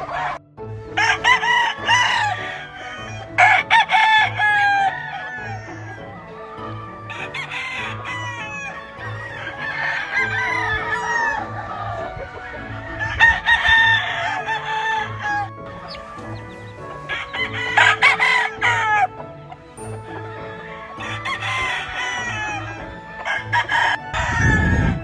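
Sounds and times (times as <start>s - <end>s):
music with low beat: 0.0s - 25.0s
roosters crowing: 0.0s - 25.0s.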